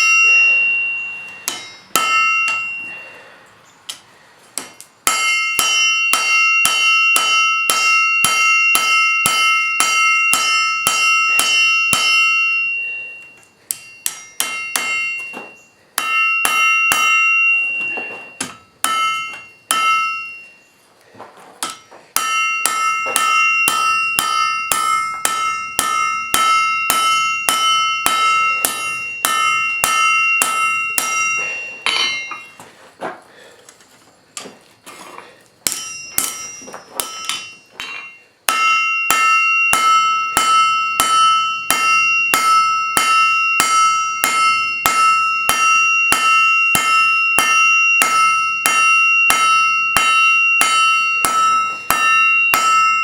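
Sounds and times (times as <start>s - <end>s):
hammer ringing on anvil: 0.0s - 4.0s, 4.6s - 20.8s, 21.6s - 32.7s, 35.6s - 53.0s.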